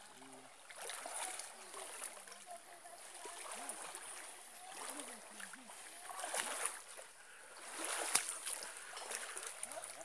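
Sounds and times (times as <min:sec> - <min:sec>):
water splashing around wading legs: 0:00.0 - 0:10.0.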